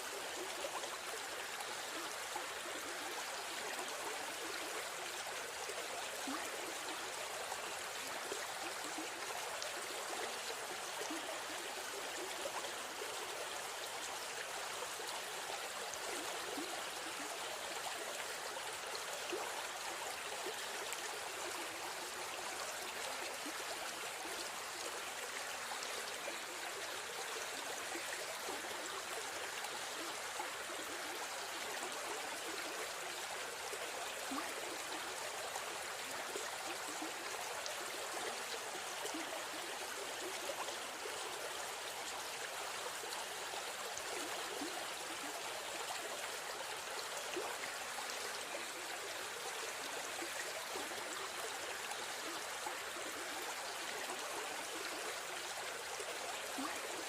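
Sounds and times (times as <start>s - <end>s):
river stream flowing: 0.0s - 57.0s.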